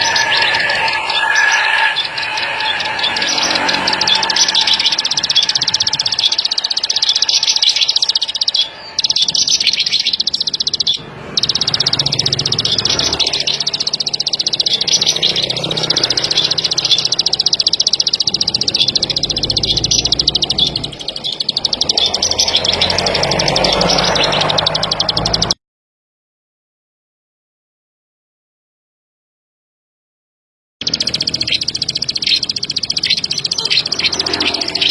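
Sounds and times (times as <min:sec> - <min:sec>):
bird buzzing trill: 0:00.0 - 0:25.6, 0:30.8 - 0:34.9.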